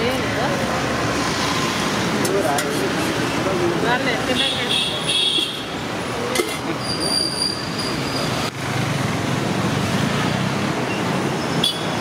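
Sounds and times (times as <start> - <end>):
roadside traffic rumble: 0.0 - 12.0.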